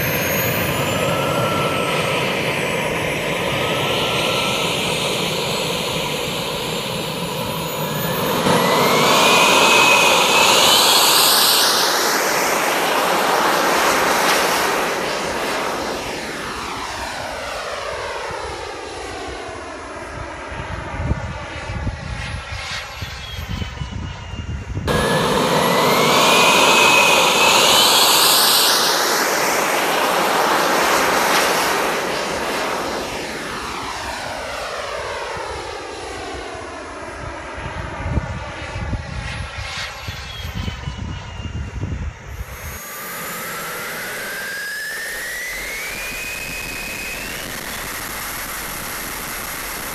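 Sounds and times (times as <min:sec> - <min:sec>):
model jet turbine flying past: 0:00.0 - 0:49.9.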